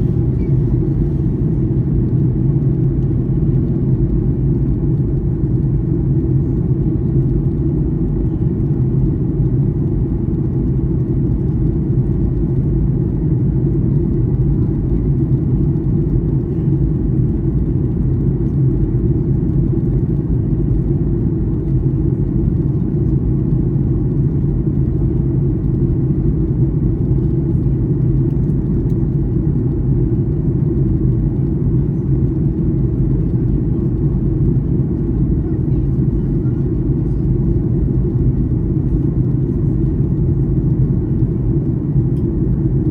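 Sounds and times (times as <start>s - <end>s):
airplane cabin drone: 0.0s - 42.9s.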